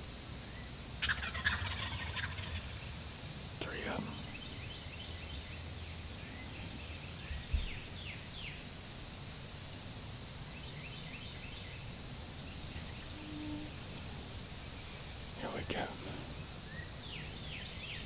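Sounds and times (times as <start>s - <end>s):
steady high-pitched whine: 0.0s - 18.0s.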